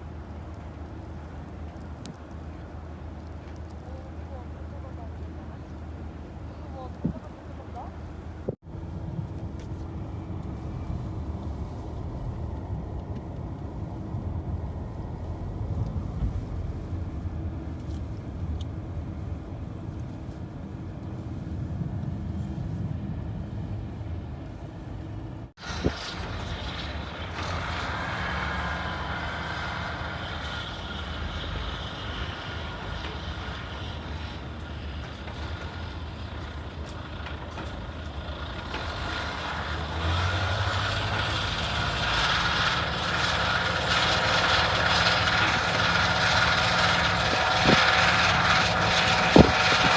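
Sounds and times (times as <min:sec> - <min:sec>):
vehicle engine running: 0:00.0 - 0:21.5, 0:25.6 - 0:49.9.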